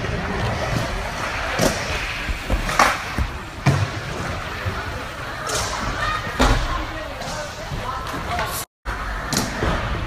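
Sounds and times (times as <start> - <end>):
skateboard impacts: 0.0 - 8.2
skateboard wheels rolling: 0.0 - 10.0.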